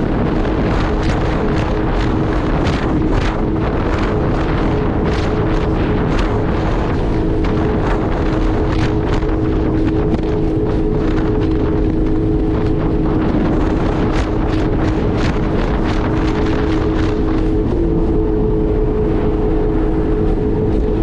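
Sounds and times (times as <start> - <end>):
jet ski engine whine: 0.0 - 21.0
water slapping hull: 0.0 - 21.0
wind buffeting microphone: 0.0 - 21.0.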